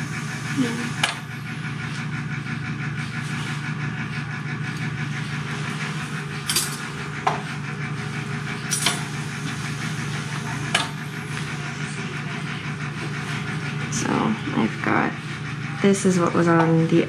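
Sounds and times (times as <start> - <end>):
ventilator machine hum: 0.0 - 17.0.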